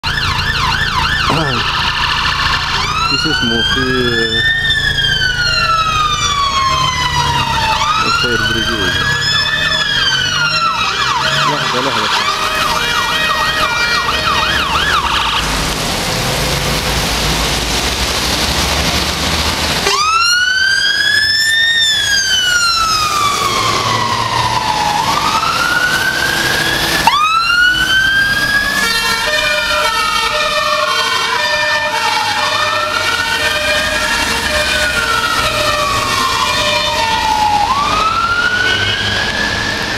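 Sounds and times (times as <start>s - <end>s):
choppy siren tone: 0.0s - 15.5s, 19.8s - 39.9s
fast warbling siren: 0.0s - 15.6s, 19.8s - 39.9s
heavy engine and traffic rumble: 0.0s - 39.9s
loud wailing siren: 0.0s - 39.9s.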